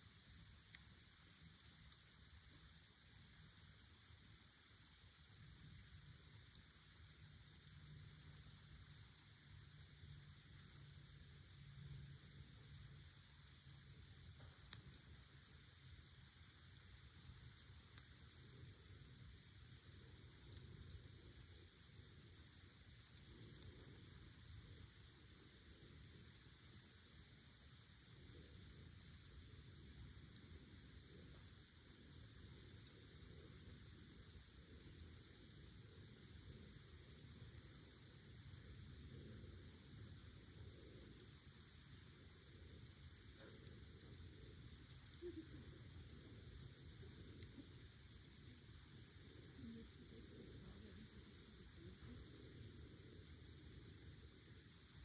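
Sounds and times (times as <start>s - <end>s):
crickets chirring: 0.1s - 55.0s.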